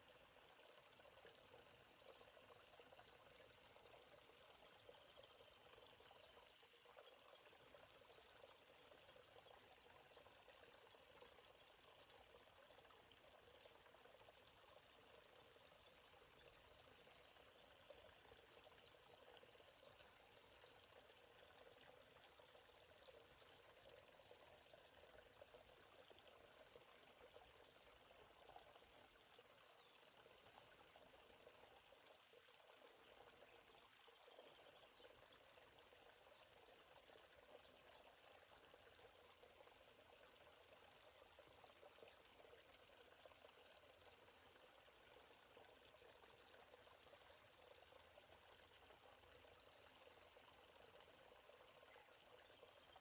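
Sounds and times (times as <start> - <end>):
faint stream flowing: 0.0 - 53.0
insect chorus trilling: 0.0 - 53.0.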